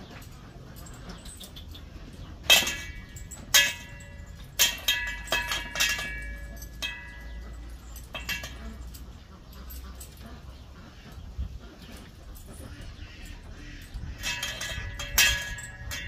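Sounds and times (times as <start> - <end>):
hard metallic clanks ringing: 0.0 - 11.2, 12.2 - 16.0.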